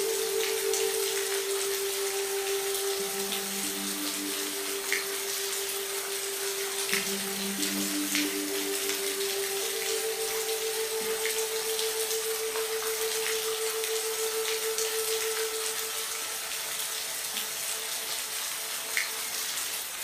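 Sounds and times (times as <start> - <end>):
soft sustained music tone: 0.0 - 20.0
steady rain hiss: 0.0 - 20.0.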